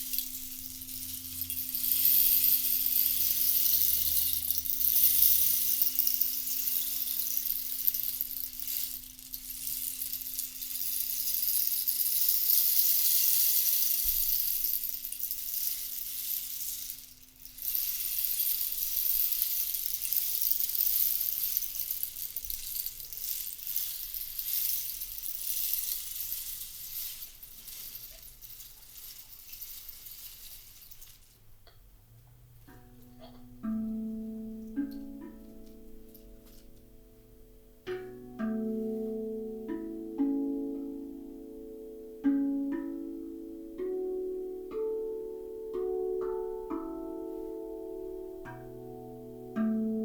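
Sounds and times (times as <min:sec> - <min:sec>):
rattling beads hiss: 0:00.0 - 0:50.0.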